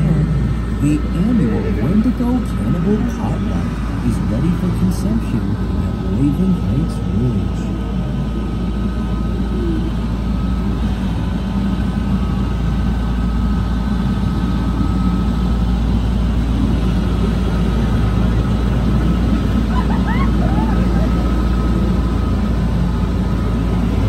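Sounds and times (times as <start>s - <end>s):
heavy engine rumbling: 0.0s - 24.0s.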